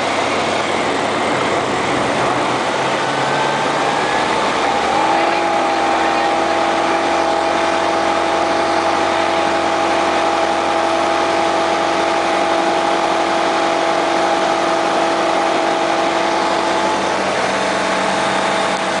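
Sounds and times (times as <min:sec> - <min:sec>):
aircraft engine and propeller: 0:00.0 - 0:19.0.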